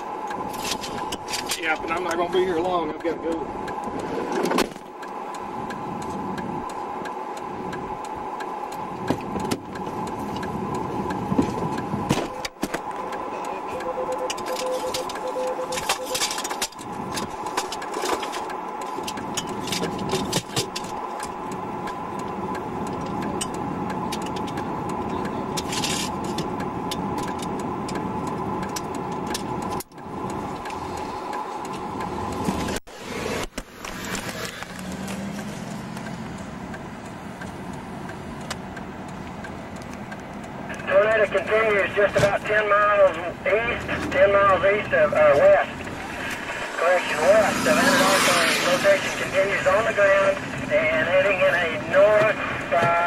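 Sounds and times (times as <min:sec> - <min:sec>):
vehicle cabin engine hum: 0:00.0 - 0:53.0.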